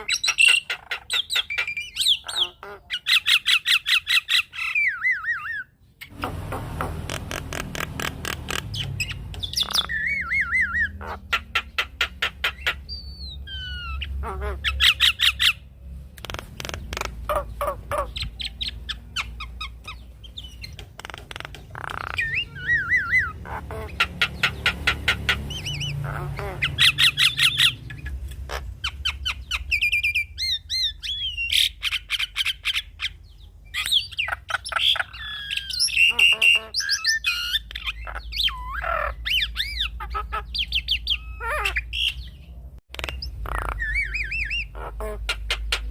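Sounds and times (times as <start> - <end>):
bird squawking and whistling: 0.0 - 6.2, 7.1 - 15.6, 16.6 - 42.4, 43.0 - 45.9.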